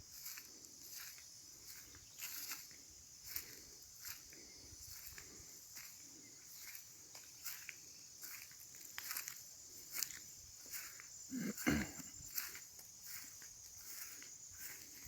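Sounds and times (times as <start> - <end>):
footsteps: 0.0 - 15.0
insects chirring: 0.0 - 15.0.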